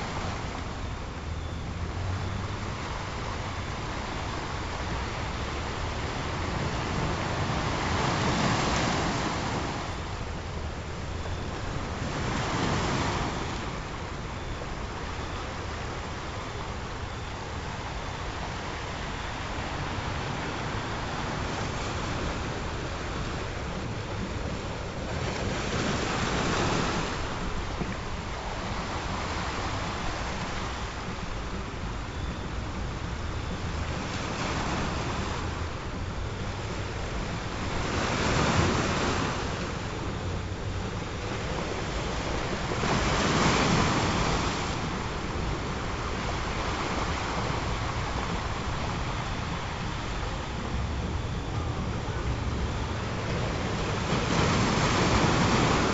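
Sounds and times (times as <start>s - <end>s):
ocean waves washing: 0.0s - 55.9s
waves breaking: 0.0s - 55.9s.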